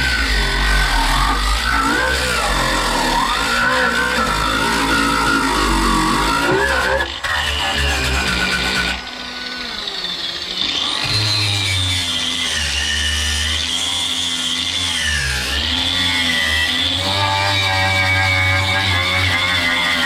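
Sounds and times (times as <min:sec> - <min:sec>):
handheld power tool running: 0:00.0 - 0:20.0.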